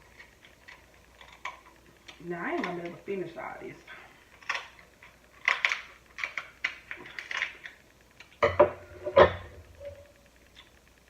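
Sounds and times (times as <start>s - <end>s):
crunching and chewing shells: 0.0s - 2.9s, 4.1s - 10.8s.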